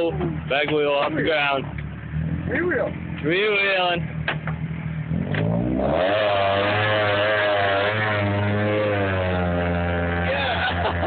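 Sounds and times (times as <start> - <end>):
suv engine revving: 0.0 - 11.0.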